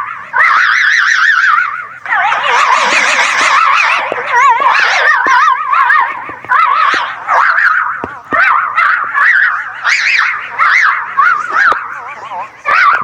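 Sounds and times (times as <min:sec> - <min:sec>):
warbling animal calls: 0:00.0 - 0:13.0.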